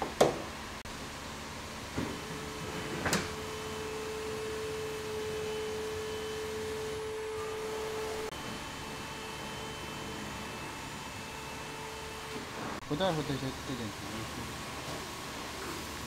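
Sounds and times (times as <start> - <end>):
car lift motor humming: 0.0 - 16.0.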